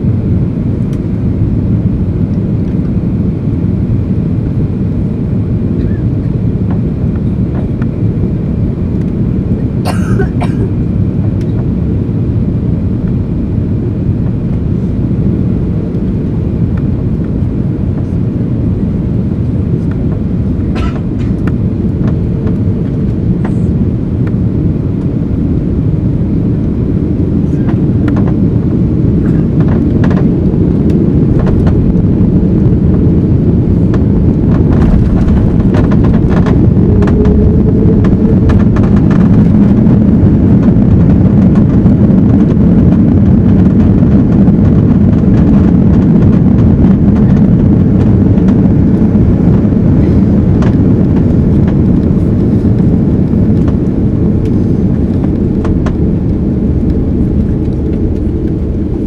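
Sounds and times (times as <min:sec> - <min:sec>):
aircraft landing rumble: 0:00.0 - 0:59.0.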